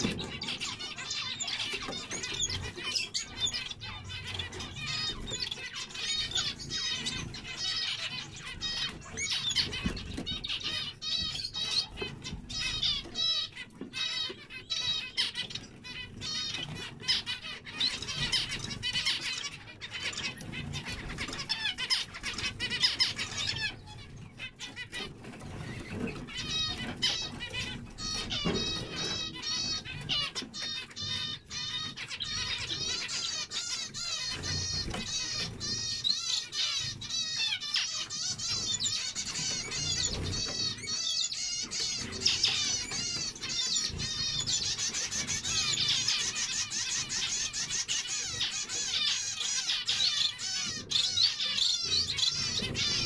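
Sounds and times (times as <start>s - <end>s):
finches chirping and singing: 0.0s - 53.0s.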